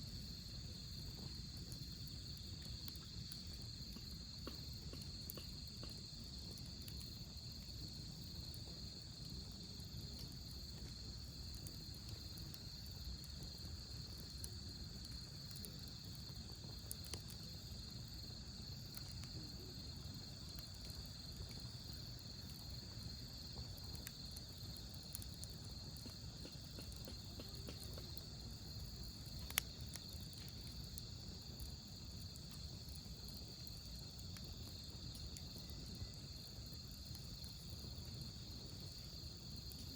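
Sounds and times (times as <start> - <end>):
night insects chirring: 0.0 - 39.9
wood fire crackling: 0.0 - 39.9.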